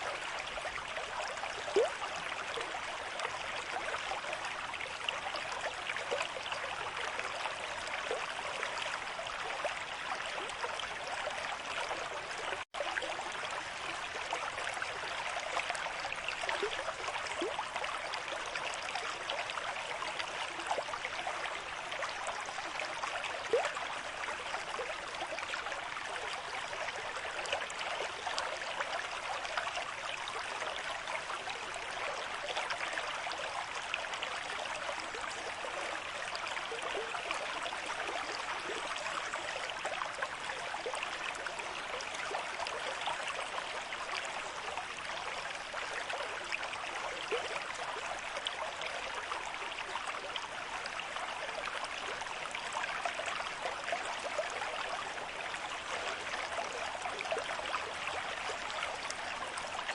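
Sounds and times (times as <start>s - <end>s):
stream running over rocks: 0.0s - 59.9s.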